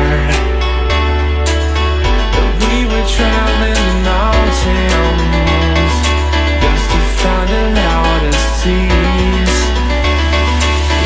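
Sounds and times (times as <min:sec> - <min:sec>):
pop electronic music: 0:00.0 - 0:11.0.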